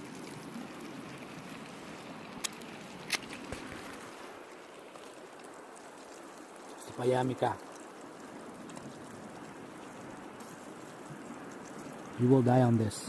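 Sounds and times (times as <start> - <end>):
flowing river rushing: 0.0 - 13.0.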